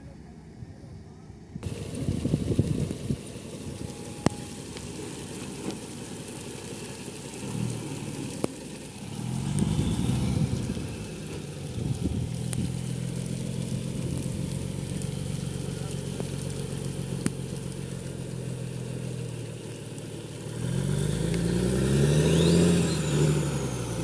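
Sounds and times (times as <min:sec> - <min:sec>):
truck diesel engine running: 0:01.6 - 0:24.0.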